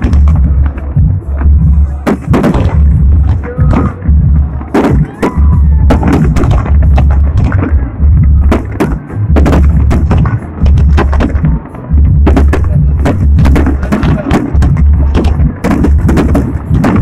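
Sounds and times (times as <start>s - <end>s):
fireworks bangs: 0.0s - 17.0s
music with heavy bass beat: 0.0s - 17.0s.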